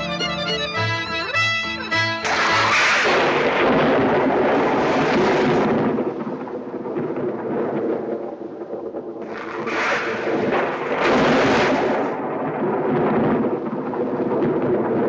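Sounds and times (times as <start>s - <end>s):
rolling thunder: 2.2s - 15.0s.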